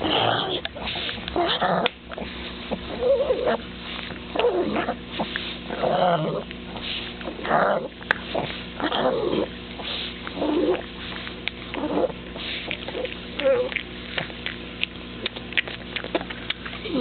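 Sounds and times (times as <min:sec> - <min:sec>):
dog chewing and smacking: 0:00.0 - 0:17.0
dog making throaty noises: 0:00.0 - 0:17.0.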